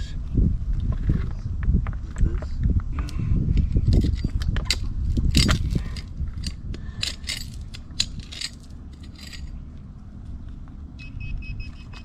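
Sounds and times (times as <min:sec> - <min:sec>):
low rumble: 0:00.0 - 0:11.8.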